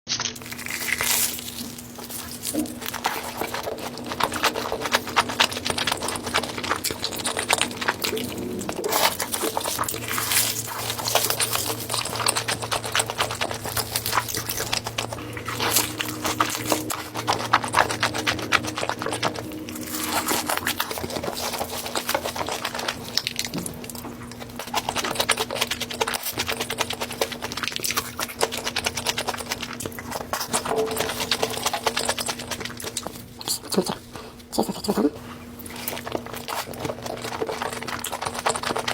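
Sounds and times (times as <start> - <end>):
chewing and crunching: 0.1 - 38.9
faint steady hum: 0.1 - 38.9.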